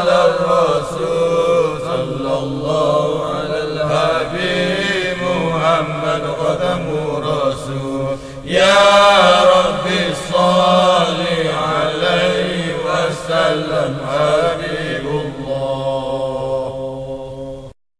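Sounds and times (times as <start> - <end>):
voices chanting a melismatic melody: 0.0 - 17.3.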